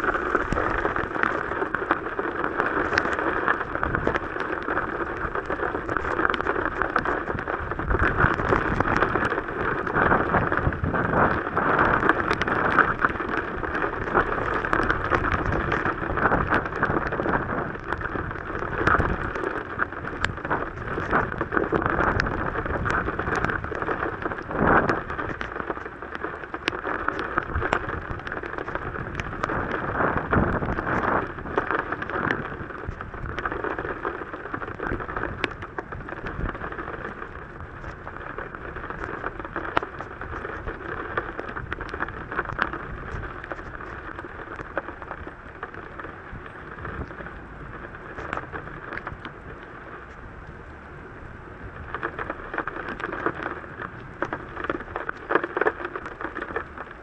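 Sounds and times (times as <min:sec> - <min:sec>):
raindrops ticking on glass: 0:00.0 - 0:50.2
heavy rain on a car: 0:00.0 - 0:57.0.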